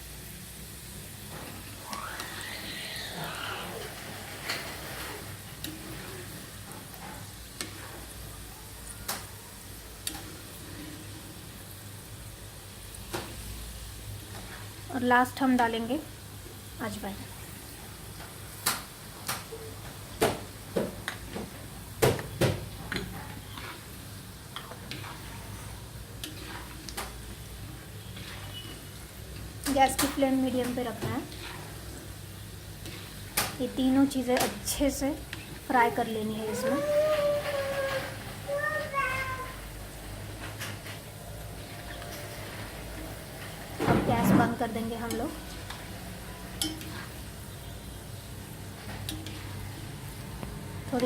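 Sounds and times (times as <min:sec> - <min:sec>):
oil sizzling while stirred: 0:00.0 - 0:51.0.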